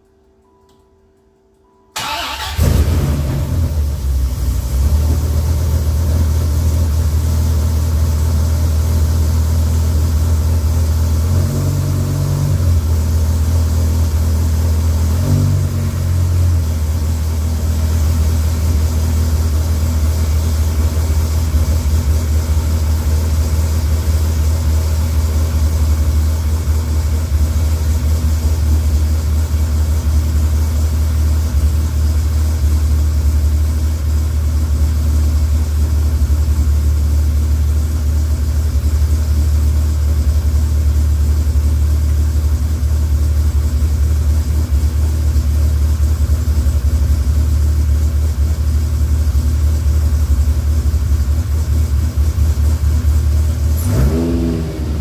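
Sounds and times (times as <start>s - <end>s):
engine idling and revving: 2.0s - 55.0s.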